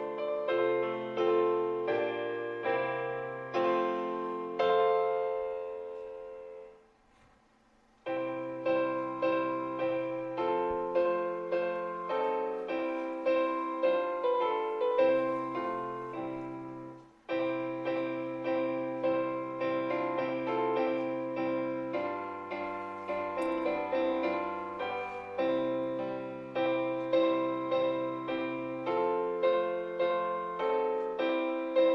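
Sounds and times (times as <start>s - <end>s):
hymn on piano: 0.0s - 6.9s, 8.0s - 31.9s.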